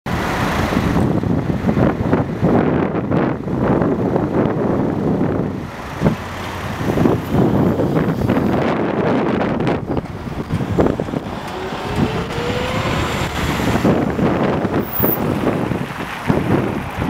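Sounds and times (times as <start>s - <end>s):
cars and bus driving past: 0.1s - 17.0s.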